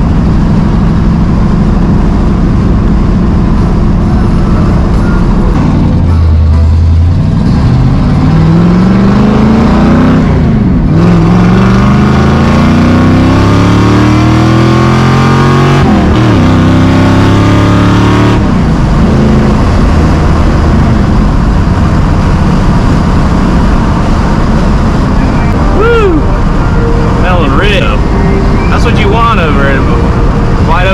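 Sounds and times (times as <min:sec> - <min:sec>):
car engine accelerating hard: 0:00.0 - 0:30.9.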